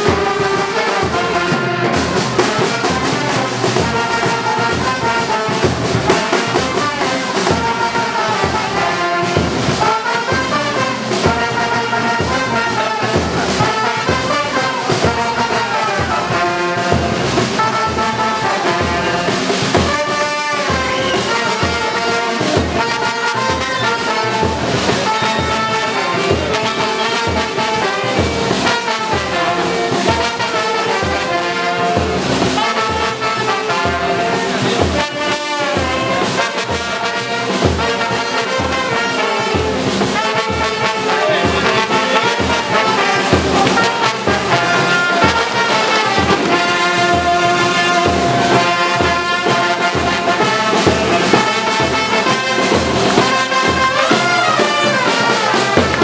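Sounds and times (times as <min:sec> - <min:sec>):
brass music over a steady beat: 0:00.0 - 0:56.0.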